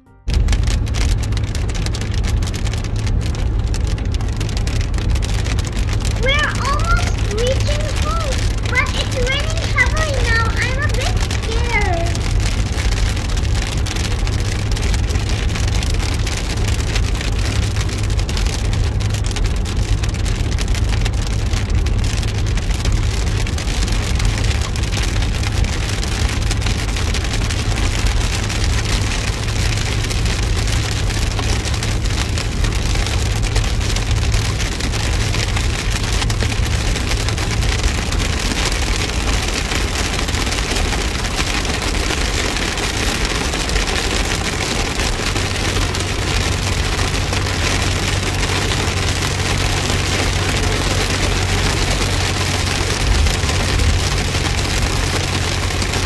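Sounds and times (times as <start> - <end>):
car low rumble: 0.0 - 56.0
rain on car windshield: 0.3 - 56.0
tyres hissing on wet road: 0.3 - 56.0.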